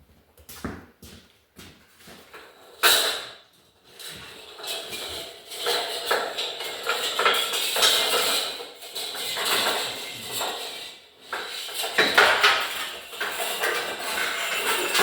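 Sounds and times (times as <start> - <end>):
objects clattering and scraping: 1.9 - 15.0.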